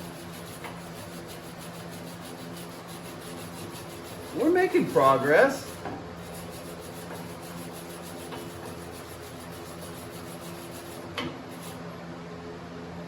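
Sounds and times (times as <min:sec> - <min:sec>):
machine hum: 0:00.0 - 0:11.8.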